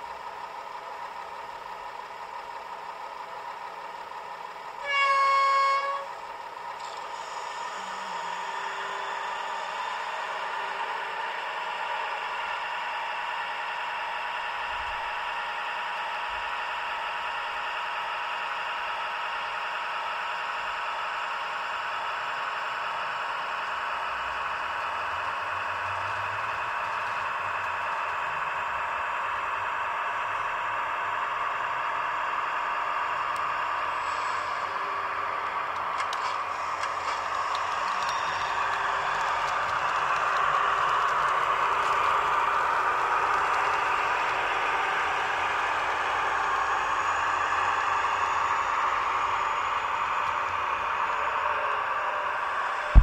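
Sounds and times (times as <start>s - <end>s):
model train diesel engine sound: 0.0s - 53.0s.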